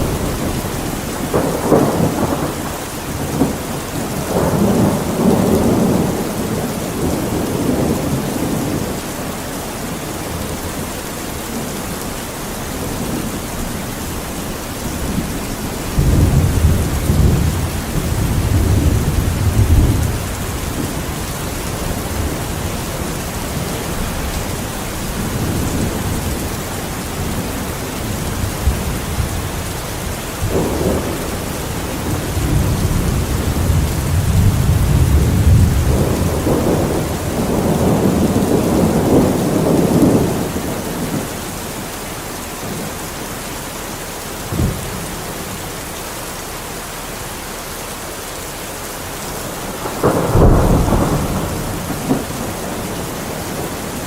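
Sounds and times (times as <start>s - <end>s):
rolling thunder: 0.0s - 41.9s, 44.4s - 45.6s, 49.2s - 54.0s
heavy rain: 0.0s - 54.0s.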